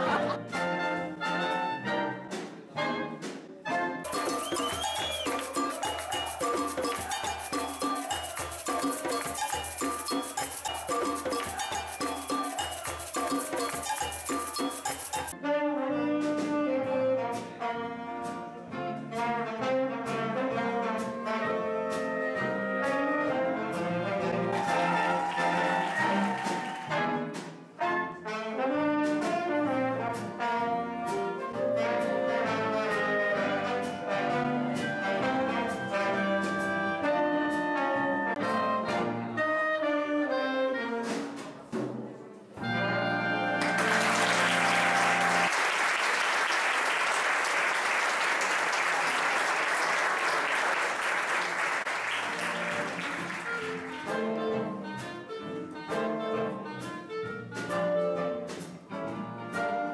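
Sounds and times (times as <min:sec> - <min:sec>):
brass band playing: 0:00.0 - 0:41.5, 0:42.6 - 0:59.9.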